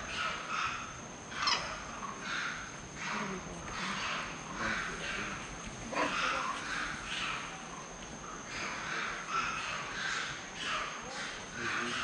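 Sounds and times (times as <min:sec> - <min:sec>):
monkeys giving harsh calls: 0:00.0 - 0:12.0.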